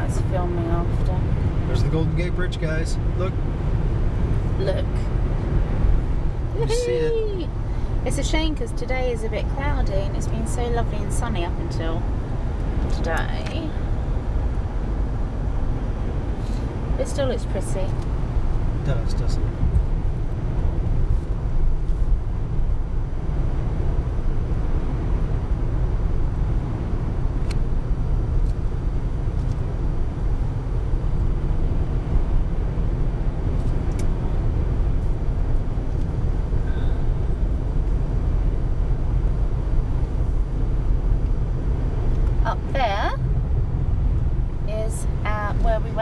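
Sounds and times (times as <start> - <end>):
car engine: 0.0 - 46.0
tyres rumbling on road: 0.0 - 46.0.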